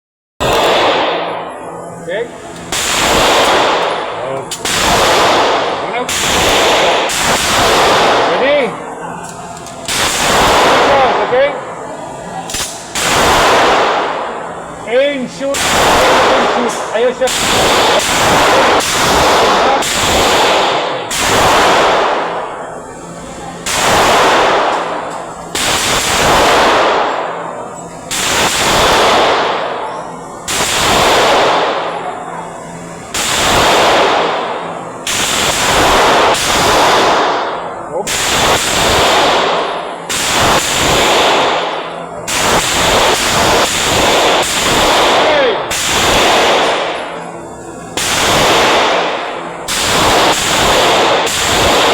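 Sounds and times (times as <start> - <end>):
gunshots echoing: 0.4 - 1.5, 2.7 - 8.8, 9.8 - 11.6, 12.5 - 14.4, 15.4 - 22.6, 23.6 - 27.5, 28.1 - 29.8, 30.5 - 32.0, 33.1 - 47.2, 48.0 - 51.9.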